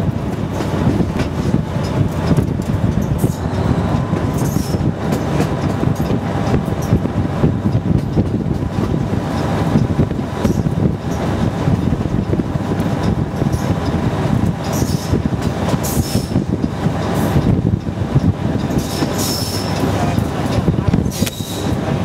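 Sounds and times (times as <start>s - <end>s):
diesel locomotive engine: 0.0s - 22.0s
wheels clacking on rails: 0.0s - 22.0s.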